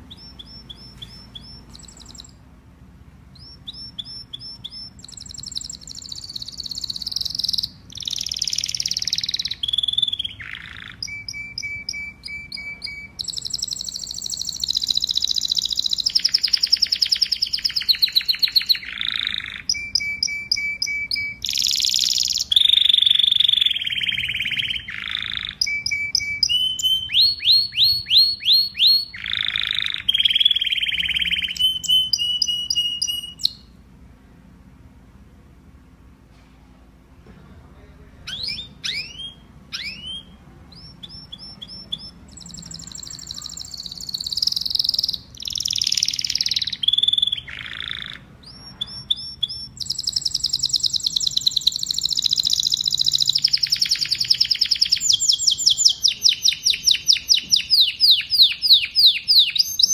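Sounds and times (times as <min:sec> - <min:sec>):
canary singing trills: 0:00.0 - 0:33.9, 0:38.2 - 0:59.9.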